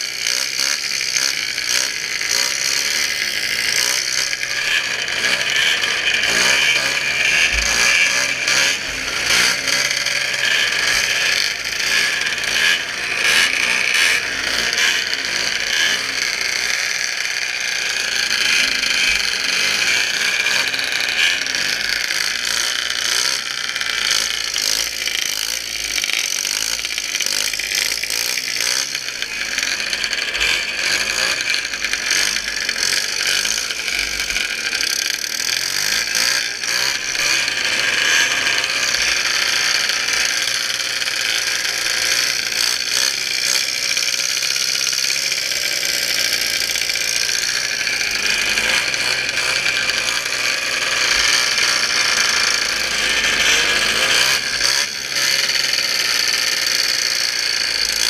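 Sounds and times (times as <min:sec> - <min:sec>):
snowmobile engine at high revs: 0:00.0 - 0:58.0.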